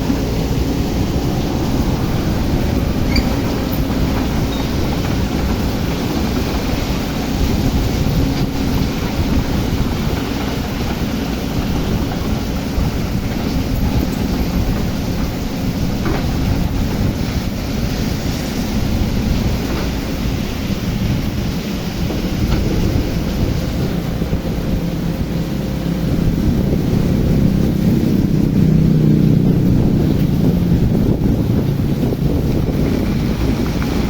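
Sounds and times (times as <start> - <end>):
excavator diesel engine running: 0.0 - 34.0
heavy rain: 0.0 - 34.0
wind noise on microphone: 0.0 - 34.0.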